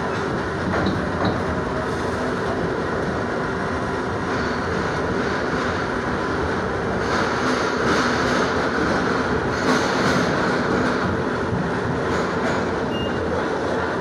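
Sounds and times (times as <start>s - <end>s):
subway wheels rumbling on rails: 0.0s - 14.0s.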